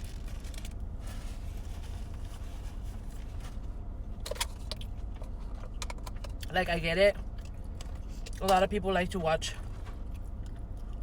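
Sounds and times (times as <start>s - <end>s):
low hum inside car: 0.0s - 11.0s.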